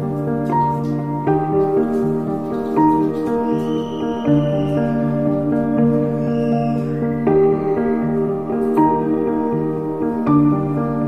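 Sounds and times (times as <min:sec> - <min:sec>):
soothing instrumental music: 0:00.0 - 0:11.0.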